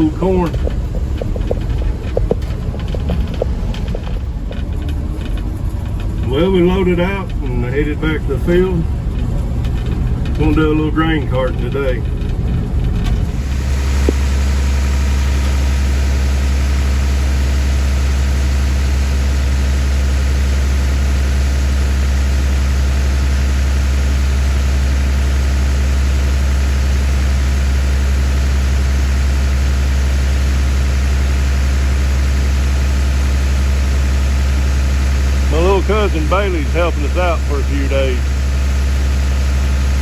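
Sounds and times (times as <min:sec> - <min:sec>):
diesel engine low drone: 0:00.0 - 0:40.0.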